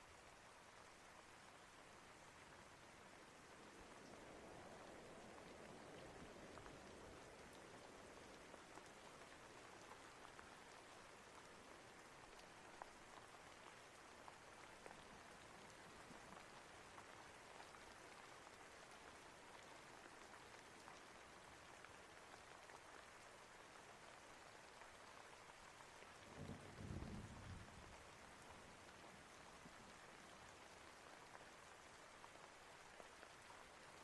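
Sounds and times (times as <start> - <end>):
faint steady rain: 0.0 - 34.0
raindrop ticks: 3.4 - 34.0.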